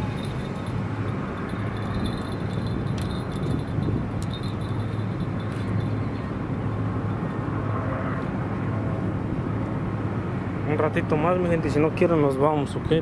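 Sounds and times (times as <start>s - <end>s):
low mechanical hum: 0.0s - 10.8s.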